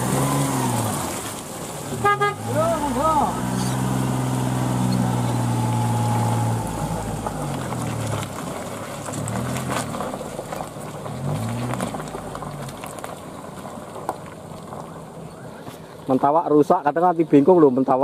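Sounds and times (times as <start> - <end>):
car engine revving in mud: 0.0 - 16.1.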